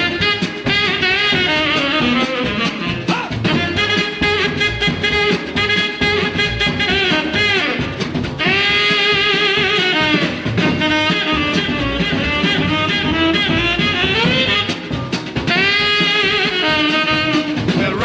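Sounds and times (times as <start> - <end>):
band and drum kit: 0.0 - 18.0
saxophone holding wavering notes: 0.0 - 18.0.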